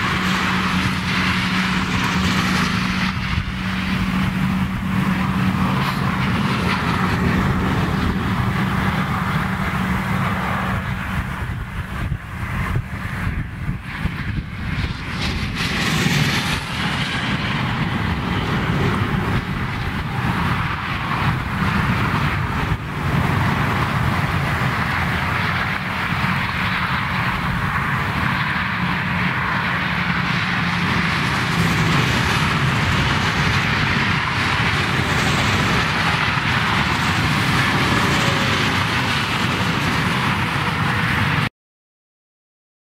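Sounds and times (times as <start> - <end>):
dense highway traffic rushing: 0.0 - 41.5.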